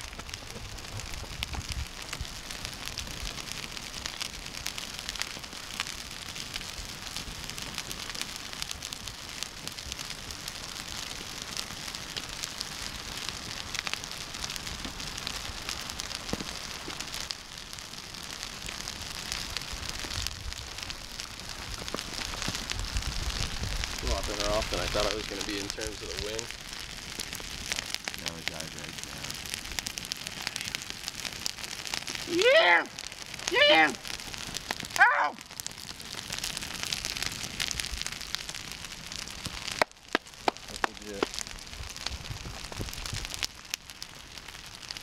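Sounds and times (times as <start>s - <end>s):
campfire crackling and popping: 0.0s - 45.0s
fire hissing: 0.0s - 45.0s.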